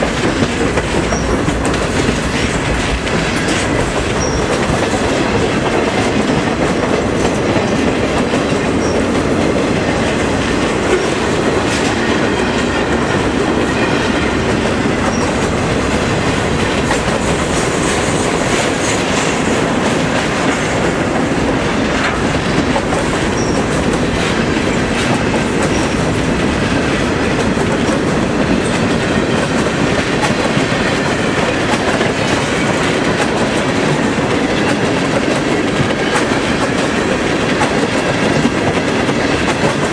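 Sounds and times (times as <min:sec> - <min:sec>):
train cars rumbling past: 0:00.0 - 0:39.9
wheels clacking over rail joints: 0:00.0 - 0:39.9.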